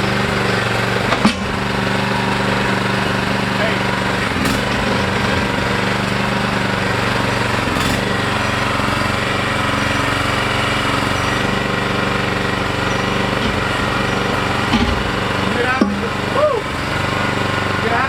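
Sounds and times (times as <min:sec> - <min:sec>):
small excavator engine running: 0:00.0 - 0:18.0.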